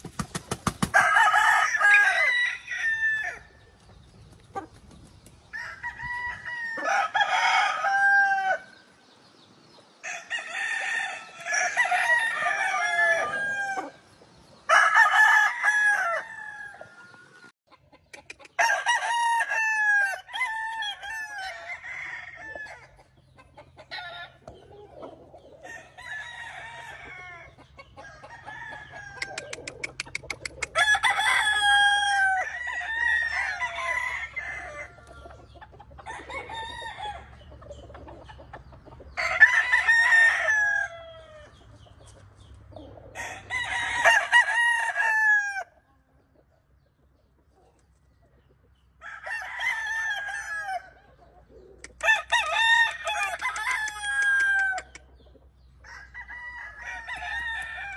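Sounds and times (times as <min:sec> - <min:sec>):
roosters crowing: 0:00.1 - 0:03.8, 0:05.4 - 0:09.0, 0:10.0 - 0:17.5, 0:18.4 - 0:41.8, 0:42.7 - 0:45.8, 0:48.9 - 0:57.9.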